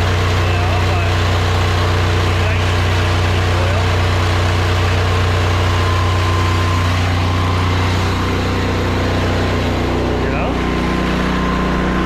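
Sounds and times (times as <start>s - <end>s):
pressure washer engine droning: 0.0s - 12.0s.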